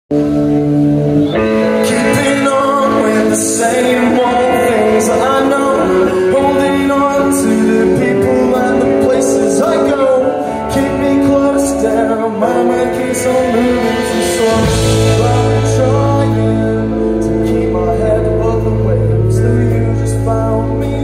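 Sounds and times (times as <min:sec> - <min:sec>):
rock band playing: 0:00.1 - 0:21.0
man singing: 0:01.2 - 0:21.0.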